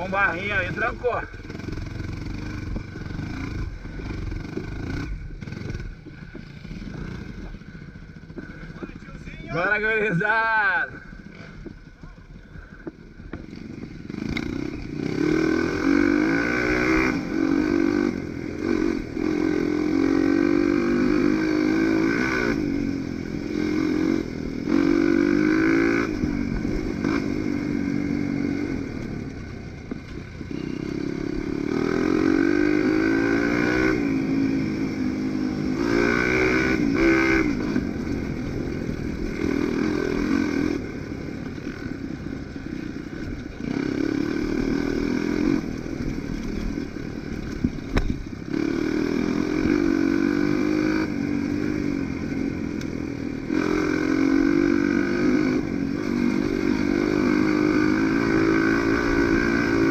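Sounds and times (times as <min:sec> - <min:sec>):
dirt bike engine revving: 0:00.0 - 0:11.6, 0:13.4 - 0:29.3, 0:30.2 - 0:59.9.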